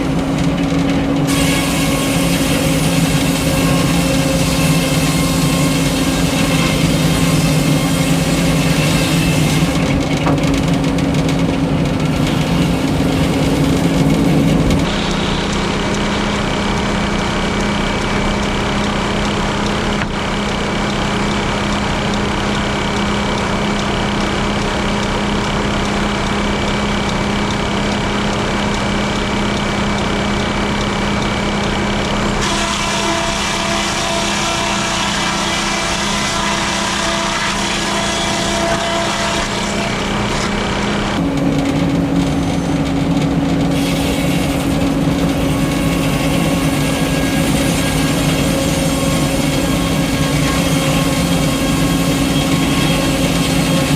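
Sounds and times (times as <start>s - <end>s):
sawmill engine drone: 0.0s - 53.9s.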